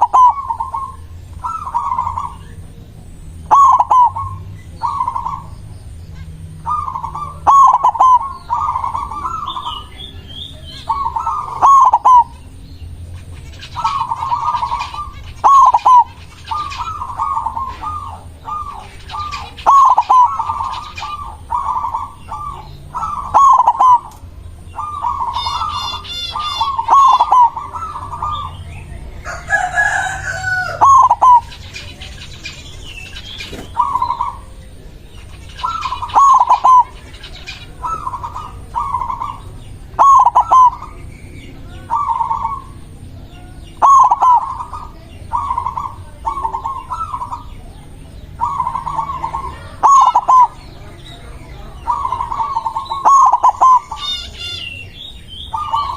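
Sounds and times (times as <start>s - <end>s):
bird giving a long loud call: 0.0s - 2.6s, 3.4s - 12.5s, 13.4s - 28.6s, 29.2s - 34.6s, 35.3s - 47.7s, 48.3s - 55.9s
dove cooing: 0.0s - 55.9s
high bird chirps: 0.0s - 55.9s.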